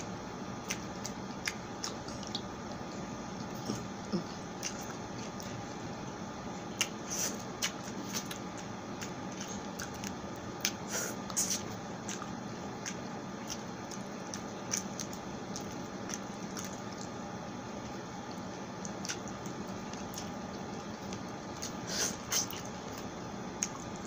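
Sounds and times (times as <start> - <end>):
wet chewing and mouth sounds: 0.0 - 24.0.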